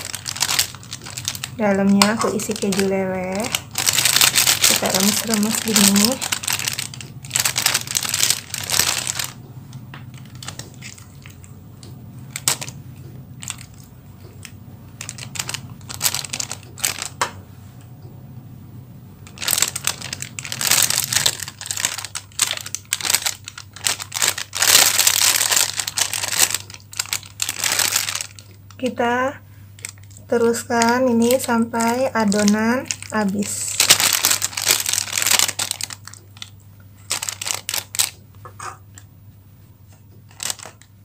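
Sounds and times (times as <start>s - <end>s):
plastic bag crinkling: 0.0s - 17.3s, 19.2s - 29.1s, 29.8s - 39.0s, 40.2s - 41.0s.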